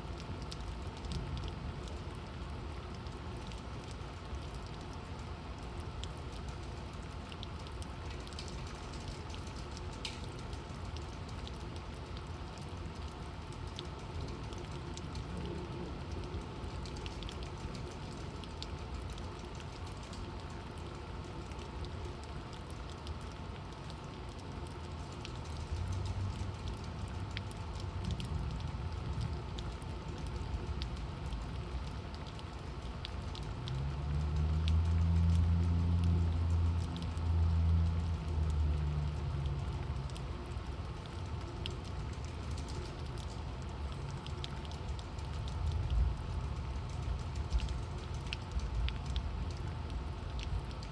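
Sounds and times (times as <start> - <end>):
torrential rain: 0.0 - 50.9.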